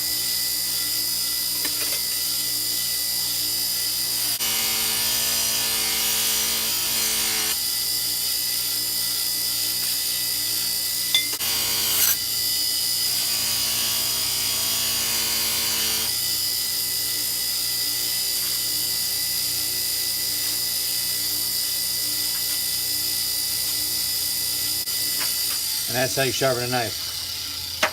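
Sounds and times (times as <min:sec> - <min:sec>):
electric grinder sharpening knife: 0:00.0 - 0:27.9.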